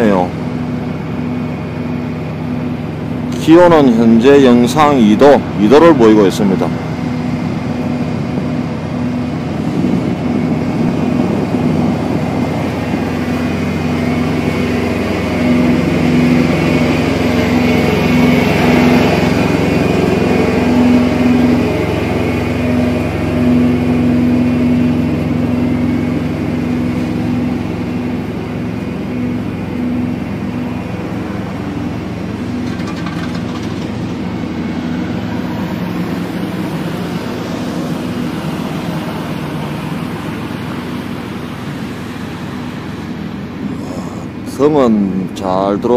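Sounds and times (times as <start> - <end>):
diesel truck engines idling: 0.0 - 45.9.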